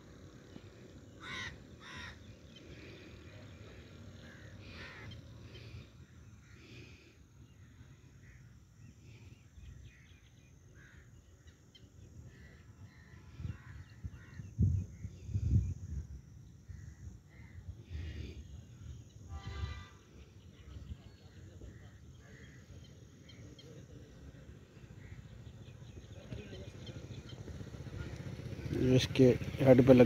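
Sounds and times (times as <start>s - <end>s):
birds harsh calls: 0.2s - 15.4s, 16.7s - 30.0s.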